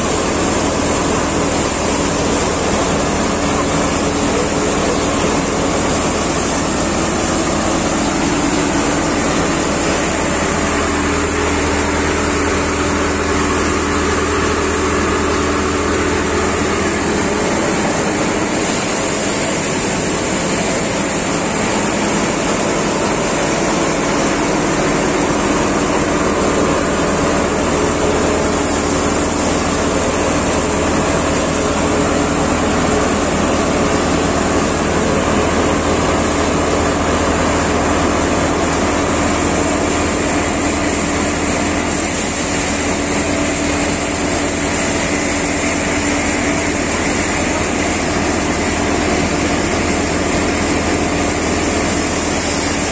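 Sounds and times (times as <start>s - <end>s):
thresher mechanical drone: 0.0s - 52.9s.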